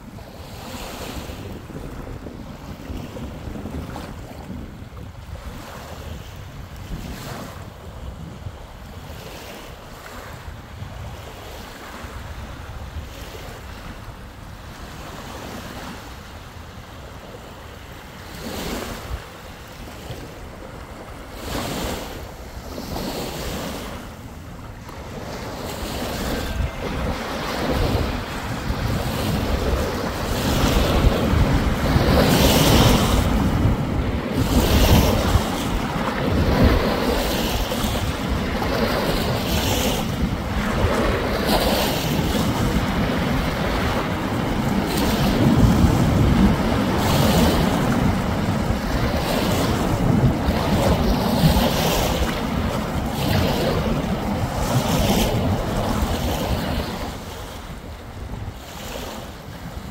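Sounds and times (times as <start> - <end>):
waves washing onto sand: 0.0 - 59.9
wind buffeting microphone: 0.0 - 59.9.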